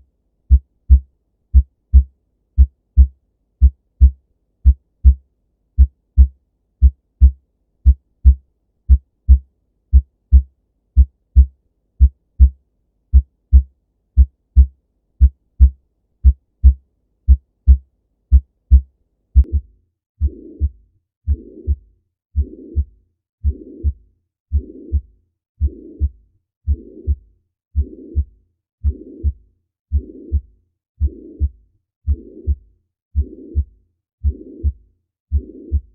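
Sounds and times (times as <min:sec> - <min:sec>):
heartbeat lub-dub: 0:00.5 - 0:05.2, 0:05.8 - 0:35.9.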